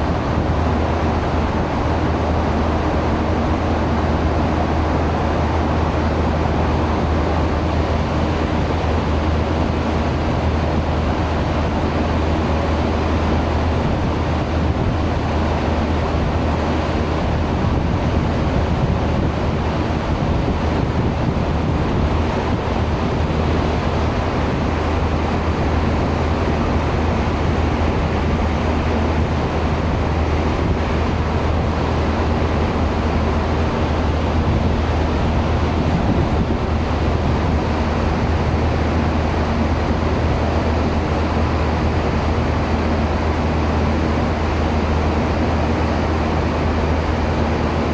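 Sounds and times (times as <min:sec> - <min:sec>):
ship engine drone: 0:00.0 - 0:47.9
wind: 0:00.0 - 0:47.9.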